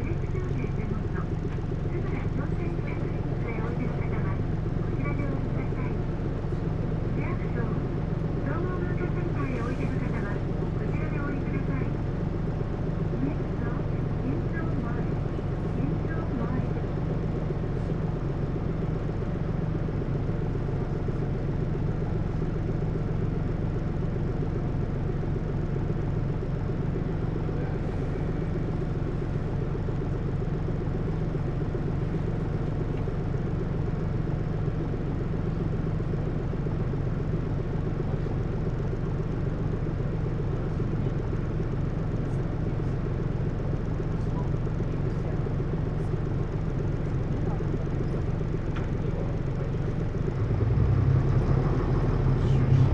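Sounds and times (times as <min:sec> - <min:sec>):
bus diesel engine humming: 0:00.0 - 0:52.9.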